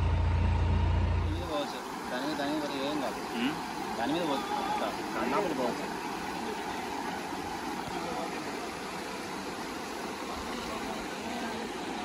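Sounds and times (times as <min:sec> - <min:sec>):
floodwater rushing over road: 0:01.3 - 0:12.0.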